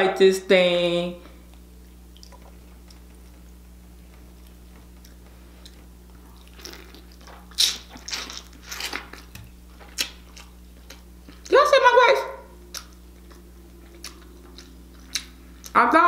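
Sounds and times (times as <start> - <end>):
biting and chewing crab: 1.5 - 11.5, 12.6 - 15.8.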